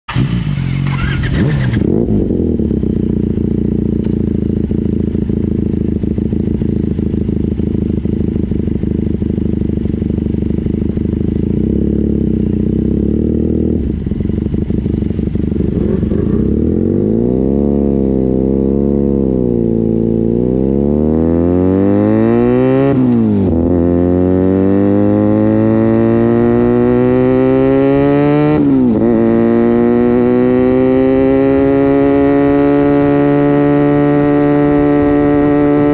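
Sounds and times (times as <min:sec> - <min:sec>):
motorcycle engine revving: 0:00.1 - 0:35.9.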